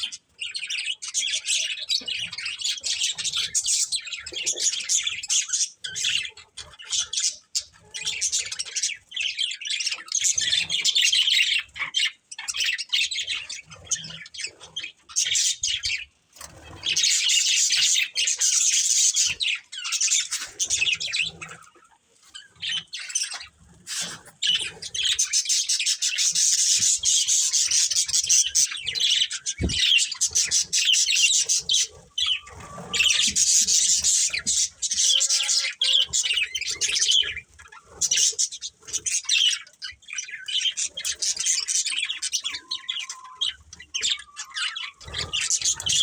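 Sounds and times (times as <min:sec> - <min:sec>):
budgerigars chirping and chattering: 0:00.0 - 0:46.0.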